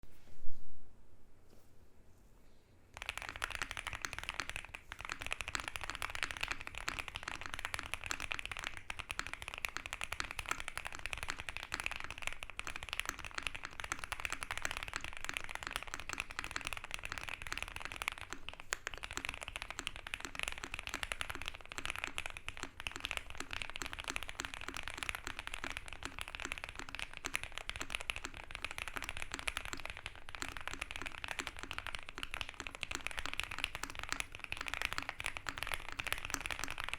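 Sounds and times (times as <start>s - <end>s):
mechanical keyboard typing: 3.0s - 36.9s.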